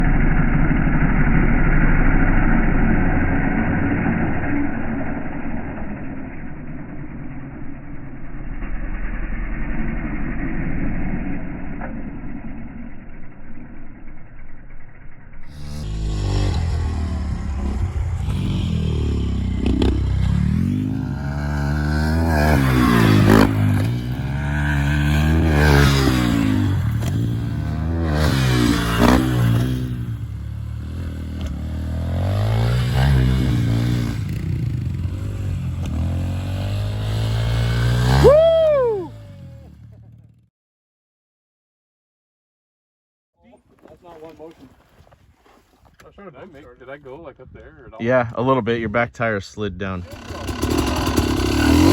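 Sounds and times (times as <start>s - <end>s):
dirt bike engine revving: 0.0s - 40.4s, 48.4s - 51.9s.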